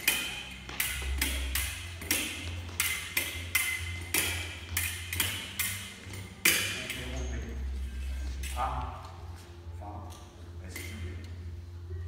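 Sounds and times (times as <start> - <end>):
fencing blades clinking: 0.0 - 9.2, 10.0 - 11.4.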